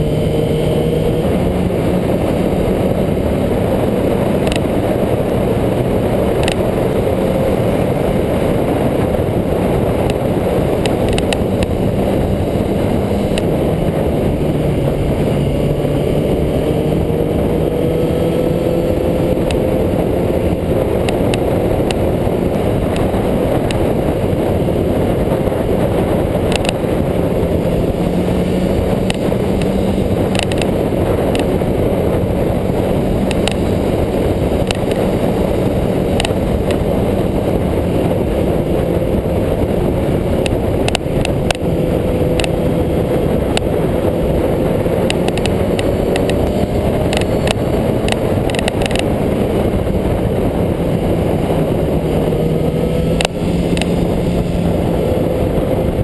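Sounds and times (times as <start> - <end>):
motorcycle engine running: 0.0 - 56.0
wind rushing on microphone: 0.0 - 56.0.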